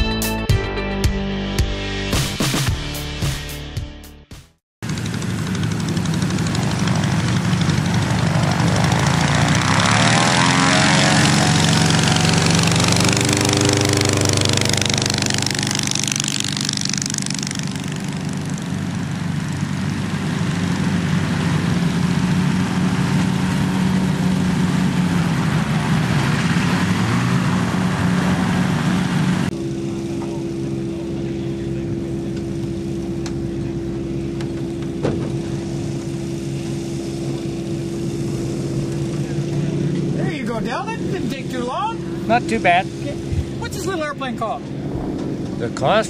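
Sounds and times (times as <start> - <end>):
light aircraft engine drone: 4.8 - 46.0.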